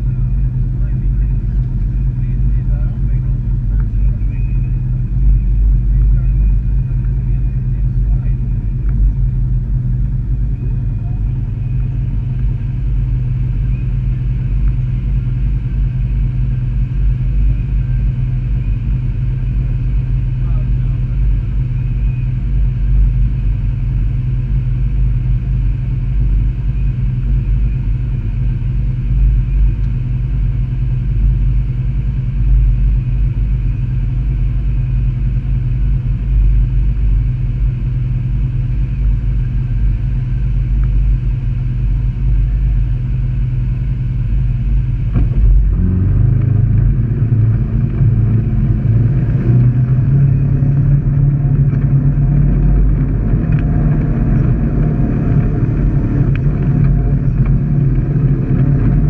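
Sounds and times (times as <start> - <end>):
vehicle engine idling and revving: 0.0 - 59.0.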